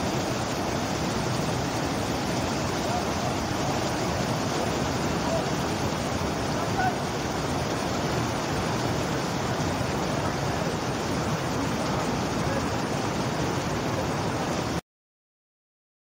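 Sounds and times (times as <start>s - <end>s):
stream rushing over rocks: 0.0s - 14.8s.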